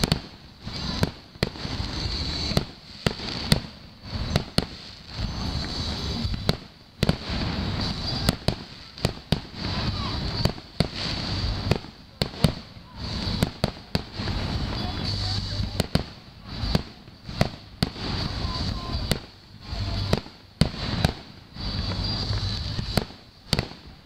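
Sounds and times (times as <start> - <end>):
fireworks bangs and cracks: 0.0 - 24.0
low rumbling booms: 0.9 - 23.6.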